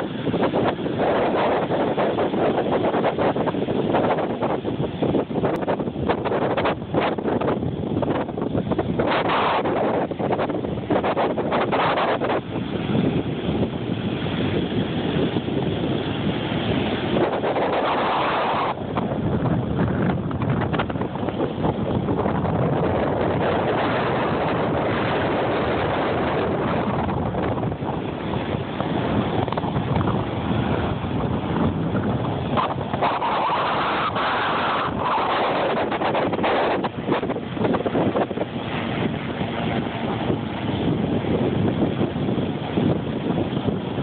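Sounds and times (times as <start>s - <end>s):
ocean surf breaking on beach: 0.0s - 44.0s
wind buffeting microphone: 0.0s - 44.0s.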